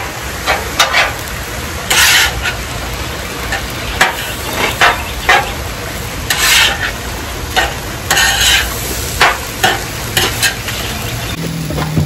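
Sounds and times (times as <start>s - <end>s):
metal spatula scraping griddle: 0.0s - 2.8s, 3.4s - 5.6s, 6.2s - 11.3s
fried rice sizzling: 0.0s - 12.0s.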